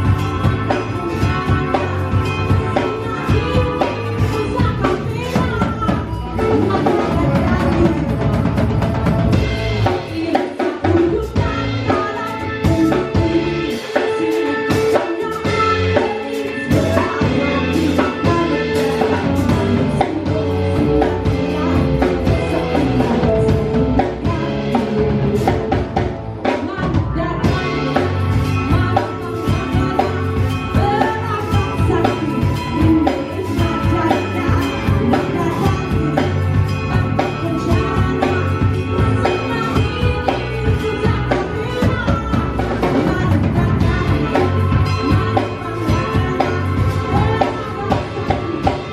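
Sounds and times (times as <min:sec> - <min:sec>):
person singing: 0:00.0 - 0:09.0, 0:09.8 - 0:48.9
band playing: 0:00.0 - 0:48.9
drum kit beat: 0:00.0 - 0:48.9.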